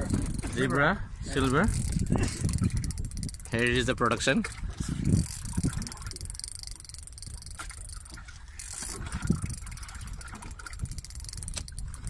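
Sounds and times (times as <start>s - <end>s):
boat engine running: 0.0s - 12.0s
wind on microphone: 0.0s - 12.0s.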